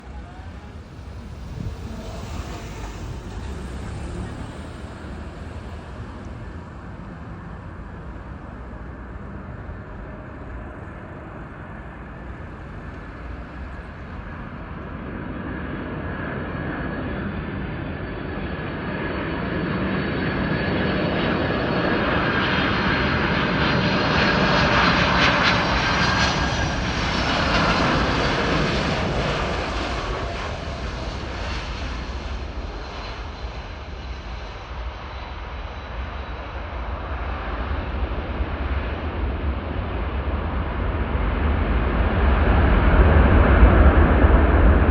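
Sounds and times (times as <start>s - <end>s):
high jet engine whine: 0.0s - 44.9s
jet engines rumbling: 0.0s - 44.9s.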